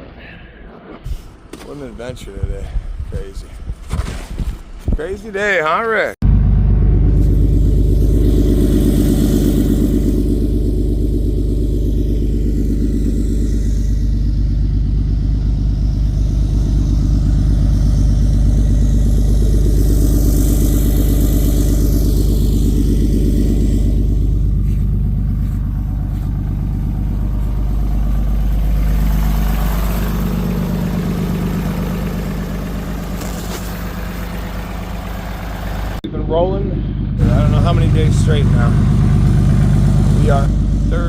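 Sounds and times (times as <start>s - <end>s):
vehicle engine humming: 6.2s - 41.0s.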